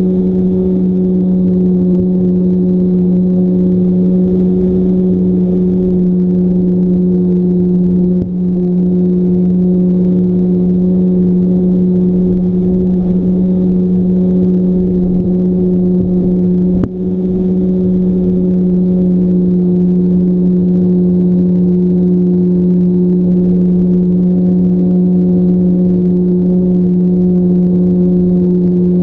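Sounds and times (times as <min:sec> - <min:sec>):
model plane motor drone: 0:00.0 - 0:29.0.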